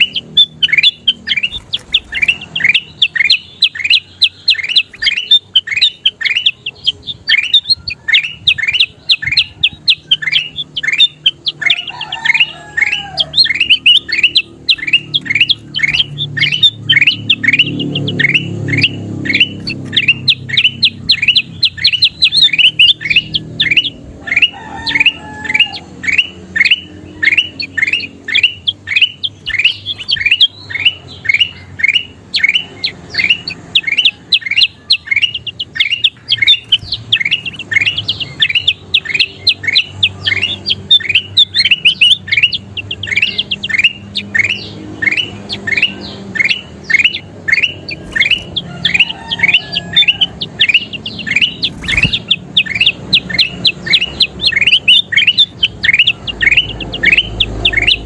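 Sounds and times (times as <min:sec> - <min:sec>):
bulbul calling in sharp notes: 0:00.0 - 0:58.0.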